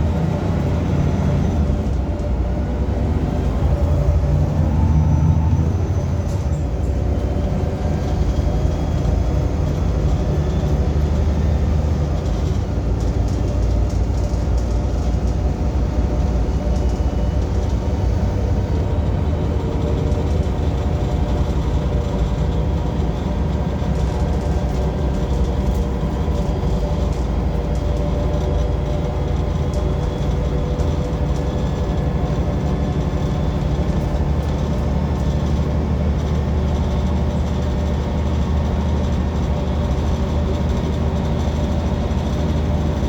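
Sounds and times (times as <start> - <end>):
bus engine low rumble: 0.0 - 43.0.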